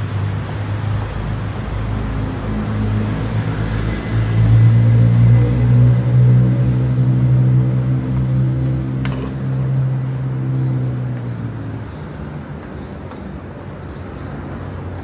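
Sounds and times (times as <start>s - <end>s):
vehicle engine droning: 0.0s - 13.8s
traffic noise: 0.0s - 15.0s.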